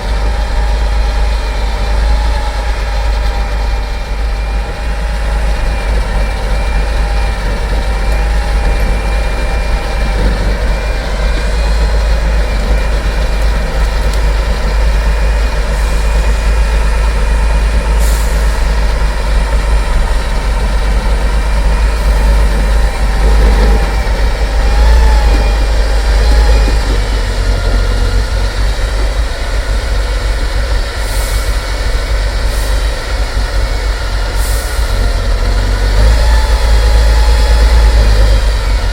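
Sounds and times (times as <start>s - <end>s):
diesel truck engine rumbling: 0.0s - 38.9s
air hisses: 4.2s - 38.6s.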